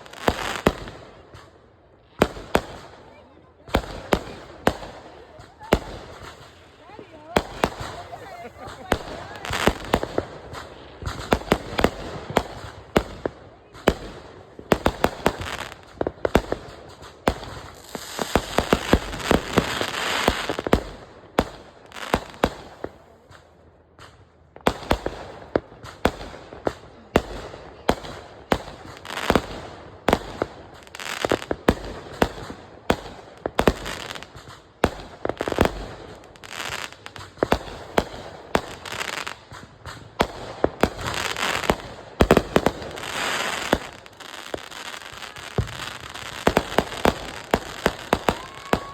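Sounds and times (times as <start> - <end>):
fireworks banging and crackling: 0.0 - 48.9.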